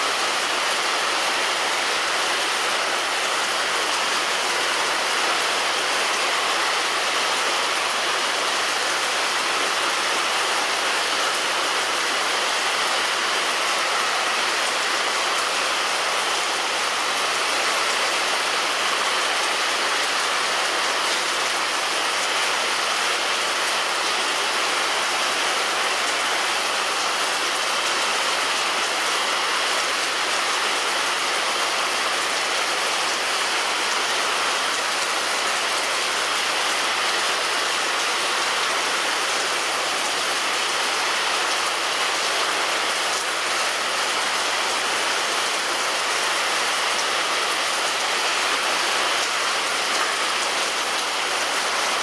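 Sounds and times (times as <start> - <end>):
heavy rain on a roof: 0.0 - 52.0.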